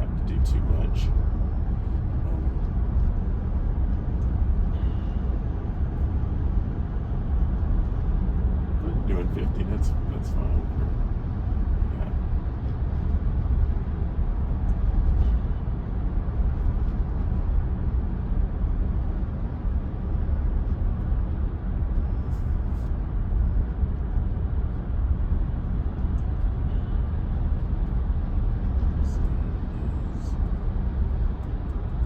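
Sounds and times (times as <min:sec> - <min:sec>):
road and tyre noise in car: 0:00.0 - 0:32.0.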